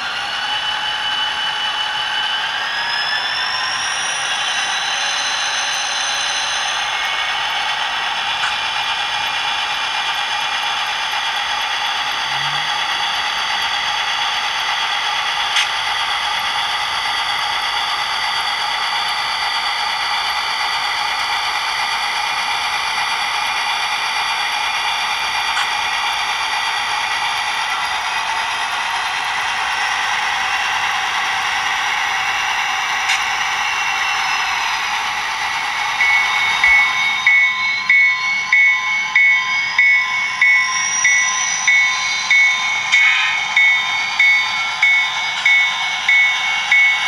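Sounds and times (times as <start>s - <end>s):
diesel engine through small speaker: 0.0s - 47.0s.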